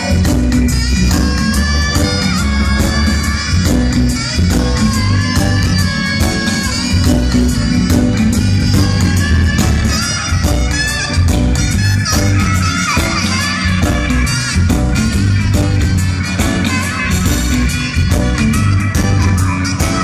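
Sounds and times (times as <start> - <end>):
reggae band playing: 0.0 - 20.0
soprano saxophone melody: 0.0 - 20.0.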